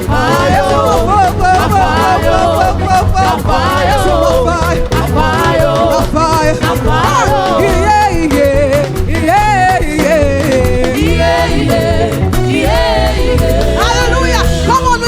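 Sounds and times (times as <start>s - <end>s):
bass line: 0.0s - 15.0s
lead voice singing: 0.0s - 15.0s
steady drum beat: 0.0s - 15.0s.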